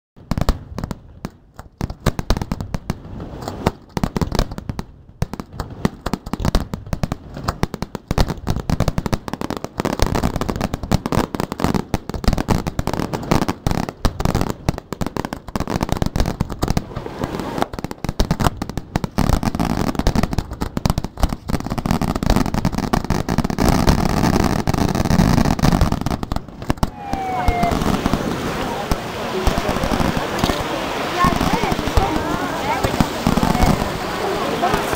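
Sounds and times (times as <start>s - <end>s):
fireworks bangs: 0.2s - 34.9s
fireworks crackling: 0.2s - 34.9s.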